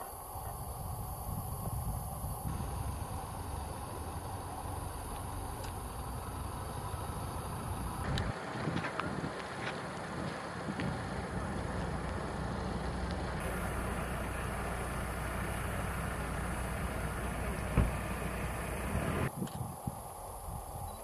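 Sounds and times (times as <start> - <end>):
heavy vehicle engine rumbling: 0.0 - 21.0.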